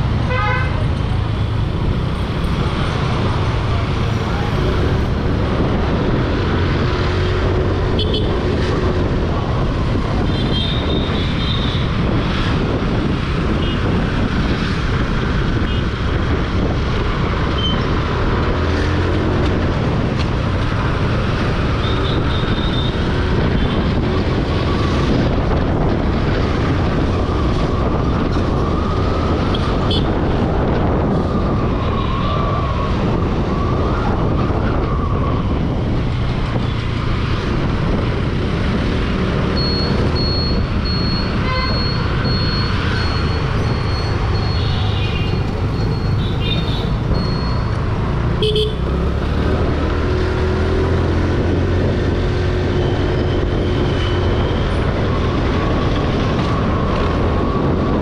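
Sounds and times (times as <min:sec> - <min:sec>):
traffic: 0:00.0 - 0:58.0
wind rushing over microphone: 0:00.0 - 0:58.0.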